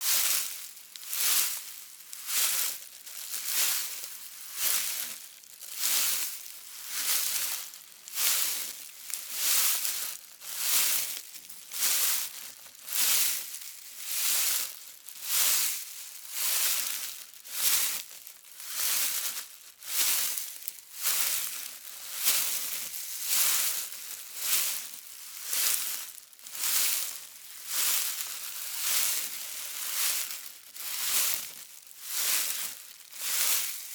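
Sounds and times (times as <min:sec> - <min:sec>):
footsteps crunching dry leaves: 0:00.0 - 0:33.9.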